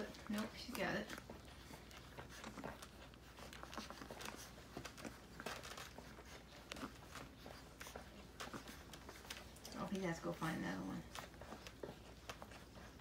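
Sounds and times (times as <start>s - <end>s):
puppies suckling: 0.0s - 13.0s.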